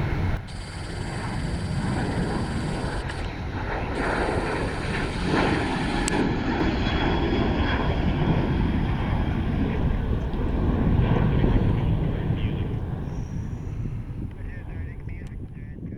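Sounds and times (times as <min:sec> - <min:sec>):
airliner engines rumbling: 0:00.0 - 0:15.9.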